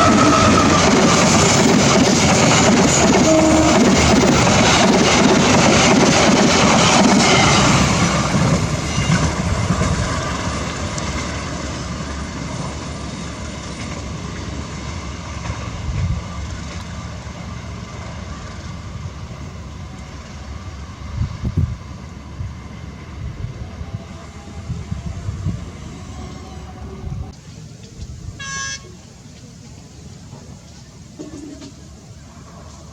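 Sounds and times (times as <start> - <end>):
train rumbling past: 0.0 - 32.9.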